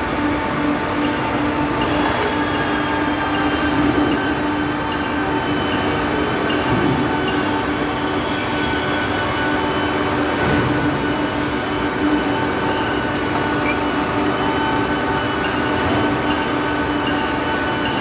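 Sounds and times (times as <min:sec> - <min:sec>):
machine whine: 0:00.0 - 0:18.0.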